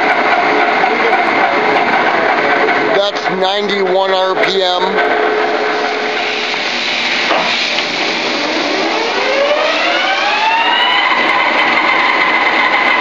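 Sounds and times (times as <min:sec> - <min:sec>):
lathe gear whine: 0:00.0 - 0:13.0.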